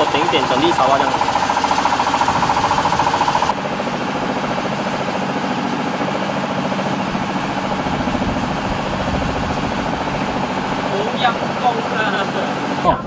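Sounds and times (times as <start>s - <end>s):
rapid buzzing rattle: 0.0s - 12.2s
boat engine running: 0.0s - 13.0s.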